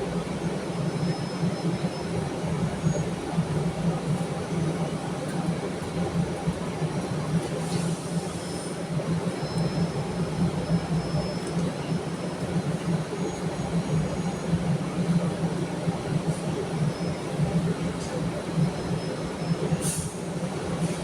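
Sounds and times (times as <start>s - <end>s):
subway car rumbling: 0.0s - 21.0s.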